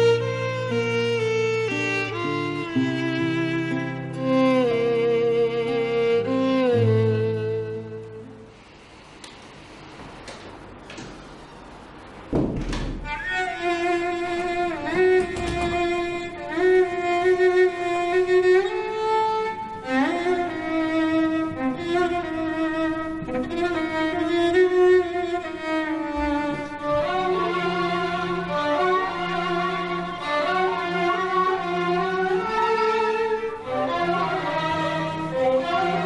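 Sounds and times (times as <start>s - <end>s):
bowed string melody: 0.0s - 8.6s, 12.9s - 36.0s.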